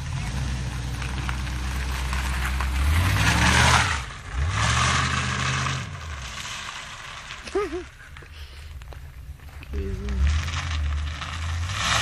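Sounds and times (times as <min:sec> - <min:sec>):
unmuffled car engine revving: 0:00.0 - 0:07.8, 0:09.7 - 0:12.0.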